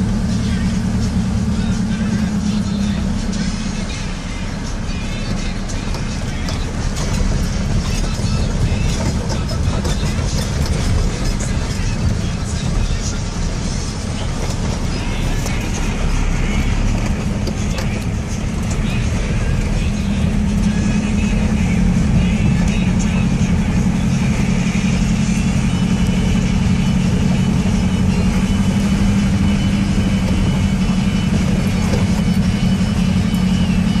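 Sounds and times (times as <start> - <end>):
car engine low hum from cabin: 0.0 - 34.0.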